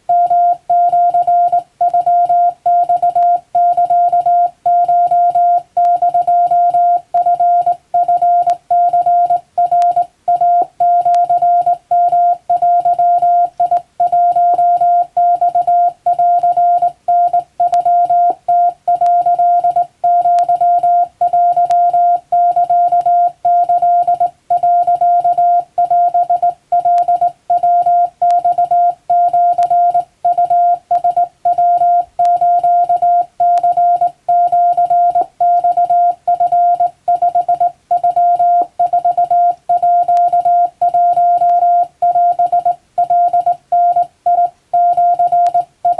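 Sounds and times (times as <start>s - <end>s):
morse code beeps: 0.1s - 45.9s.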